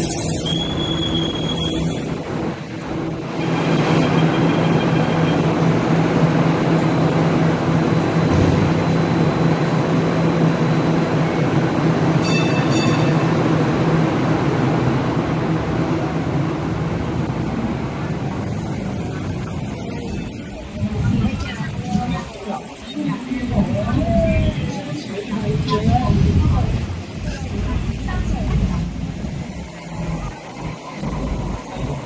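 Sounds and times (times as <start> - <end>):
rail running noise: 0.0 - 32.0.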